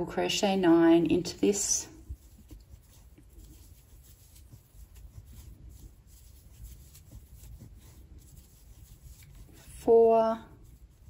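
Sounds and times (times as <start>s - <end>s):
crochet hook rubbing and ticking: 2.0s - 11.0s.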